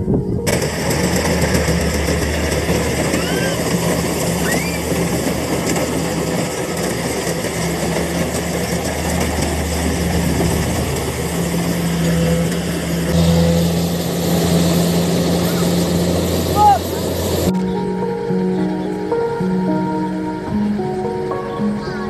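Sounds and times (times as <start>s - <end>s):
harvester diesel engine running: 0.0s - 22.0s
rushing mechanical noise: 0.0s - 22.0s.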